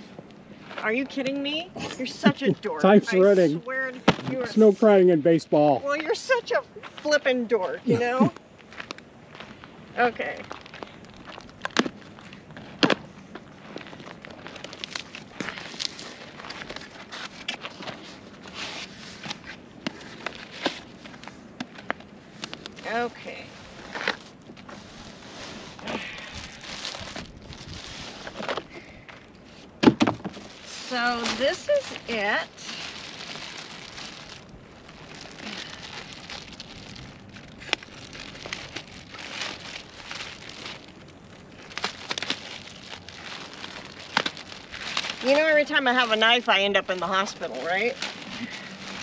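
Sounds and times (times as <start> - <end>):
cardboard and paper rustling: 5.9 - 49.0
plastic wrapping crinkling: 8.2 - 49.0.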